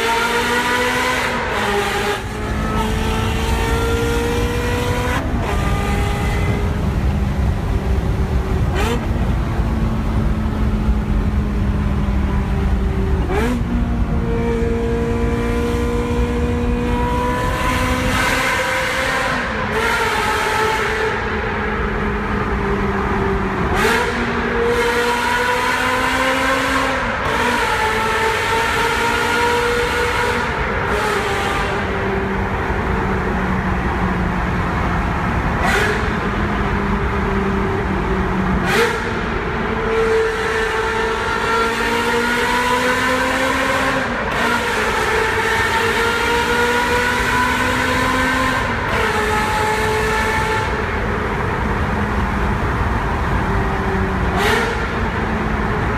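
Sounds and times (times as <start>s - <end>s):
sports car engine while driving: 0.0s - 55.9s.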